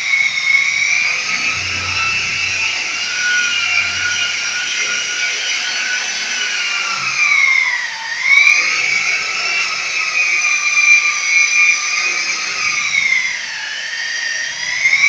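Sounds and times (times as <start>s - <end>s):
high-pitched machine whine: 0.0s - 15.0s.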